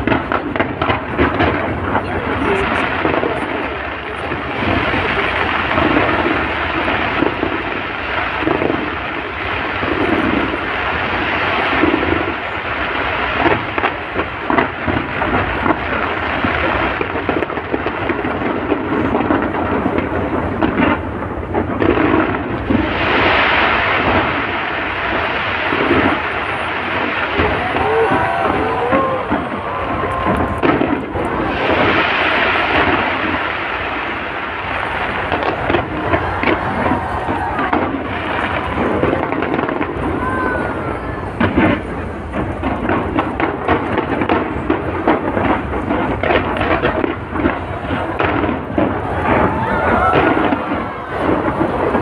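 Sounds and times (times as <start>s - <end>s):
fireworks booming and crackling: 0.0s - 52.0s.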